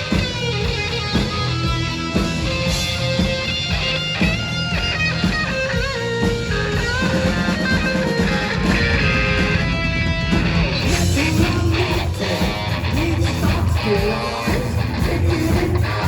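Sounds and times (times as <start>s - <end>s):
distorted electric guitar lead: 0.0s - 16.0s
heavy metal band playing live: 0.0s - 16.0s.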